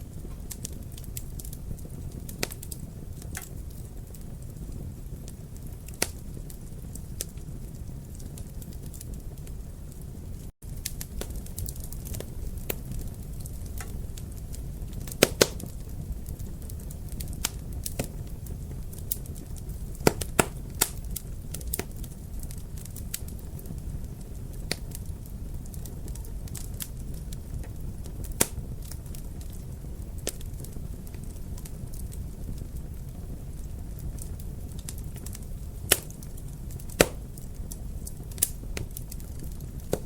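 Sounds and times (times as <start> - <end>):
wood fire crackling: 0.0 - 40.0
sharp pops of burning wood: 0.1 - 9.5, 10.6 - 40.0.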